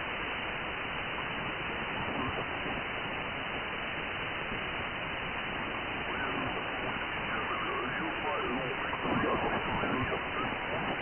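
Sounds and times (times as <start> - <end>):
radio receiver hiss: 1.1 - 11.0.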